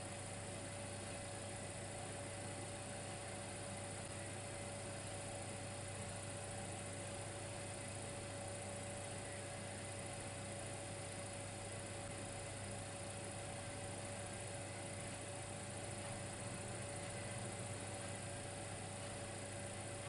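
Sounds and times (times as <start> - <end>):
electric fireplace humming: 0.0 - 20.0.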